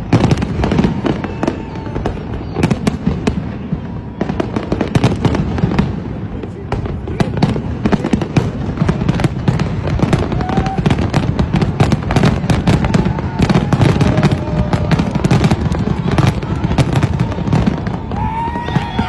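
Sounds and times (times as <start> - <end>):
fireworks whistles: 0.0 - 5.9, 7.1 - 19.0
fireworks crackling and popping: 0.0 - 19.0.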